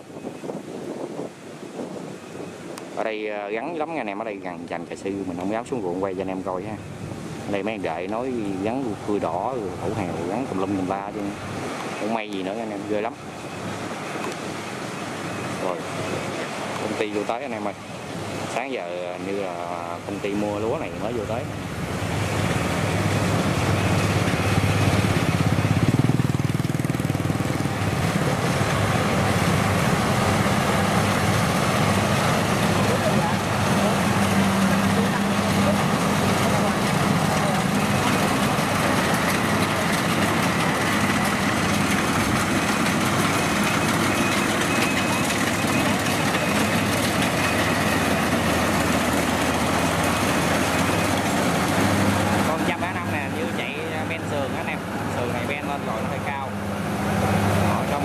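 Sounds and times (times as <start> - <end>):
combine harvesters droning: 1.7 - 58.0
threshing machinery: 10.1 - 58.0.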